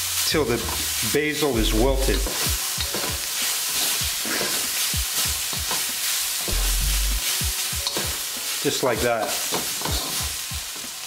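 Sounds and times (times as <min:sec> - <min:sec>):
food sizzling in a hot pan: 0:00.0 - 0:11.0.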